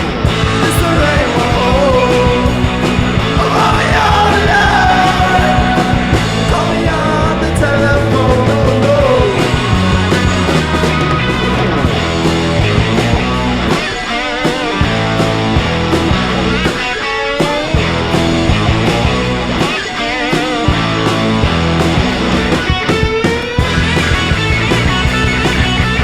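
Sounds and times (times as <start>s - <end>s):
rock song with vocals: 0.0s - 26.0s.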